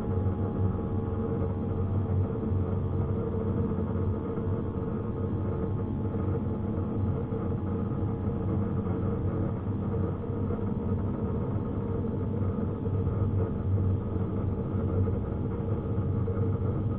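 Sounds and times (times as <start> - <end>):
mechanical hum: 0.0 - 16.9.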